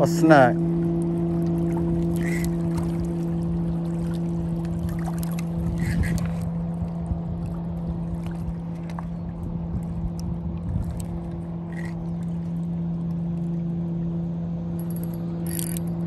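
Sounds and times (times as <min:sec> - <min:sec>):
boat motor humming: 0:00.0 - 0:16.0
water and wind rumble: 0:00.0 - 0:16.0.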